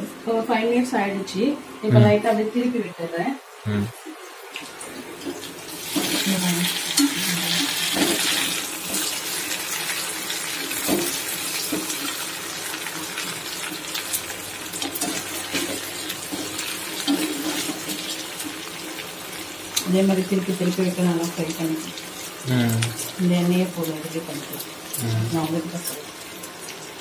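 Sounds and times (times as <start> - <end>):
slices sizzling in hot oil: 4.8 - 27.0.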